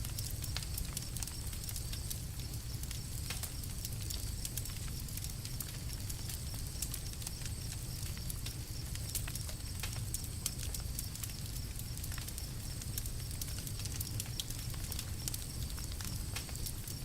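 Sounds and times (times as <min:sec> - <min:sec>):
campfire crackles and pops: 0:00.0 - 0:17.0
low rumble of campfire: 0:00.0 - 0:17.0.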